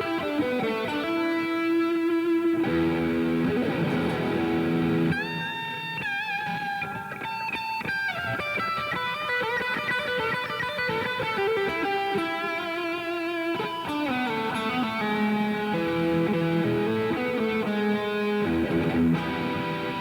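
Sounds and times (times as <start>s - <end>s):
distorted electric guitar melody: 0.0s - 20.0s.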